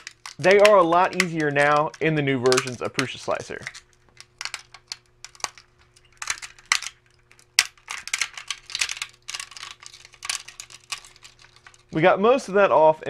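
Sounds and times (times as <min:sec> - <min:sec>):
plastic crackling and snapping: 0:00.0 - 0:12.0
faint steady hum: 0:00.0 - 0:13.0.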